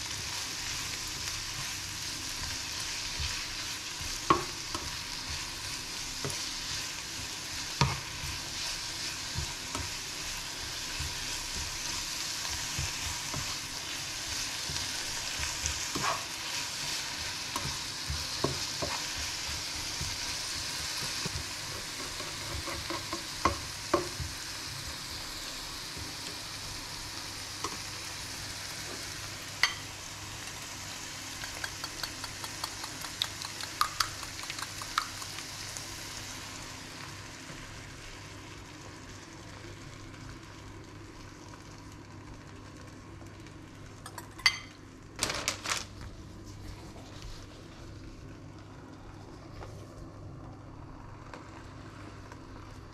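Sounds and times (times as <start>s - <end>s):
spinach sizzling in frying pan: 0.0s - 46.0s.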